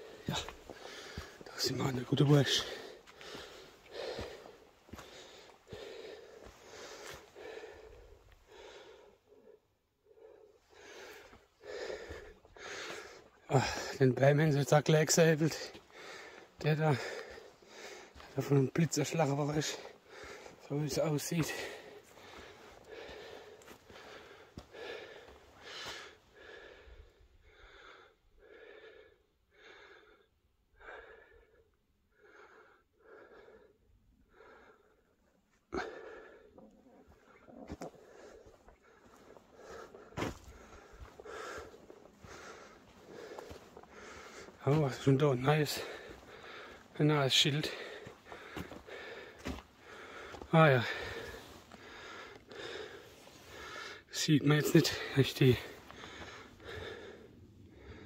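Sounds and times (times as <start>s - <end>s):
man breathing hard: 0.0s - 1.6s, 2.3s - 14.1s, 15.4s - 18.4s, 19.1s - 58.0s.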